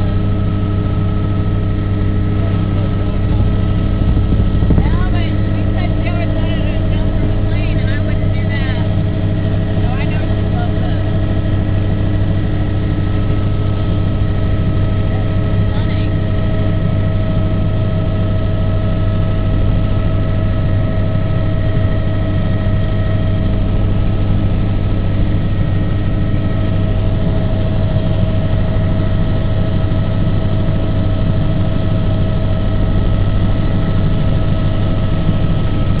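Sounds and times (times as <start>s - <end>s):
aircraft engine droning: 0.0s - 36.0s.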